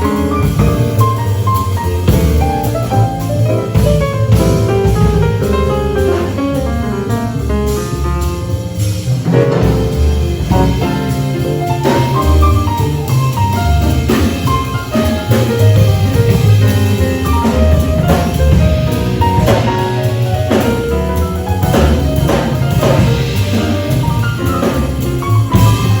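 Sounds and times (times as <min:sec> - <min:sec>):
small jazz group playing: 0:00.0 - 0:26.0.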